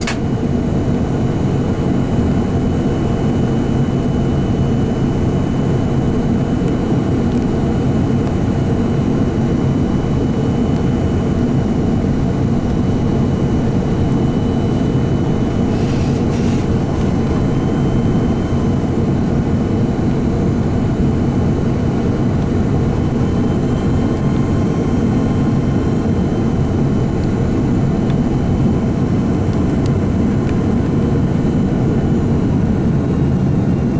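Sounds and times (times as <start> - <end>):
aircraft engine and airflow roar: 0.0 - 33.9.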